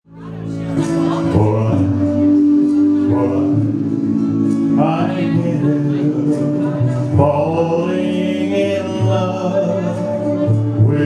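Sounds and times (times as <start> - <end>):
instrumental accompaniment: 0.1 - 11.0
man singing into a microphone: 0.2 - 11.0.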